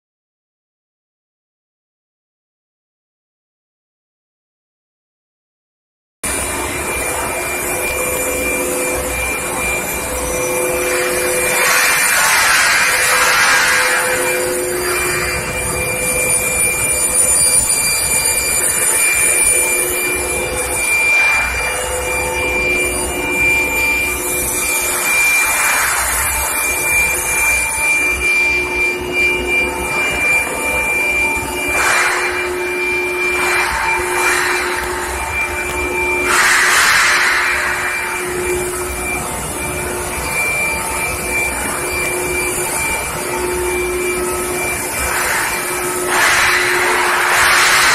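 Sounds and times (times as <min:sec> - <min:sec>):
machine electrical hum and whine: 0:06.2 - 0:47.9.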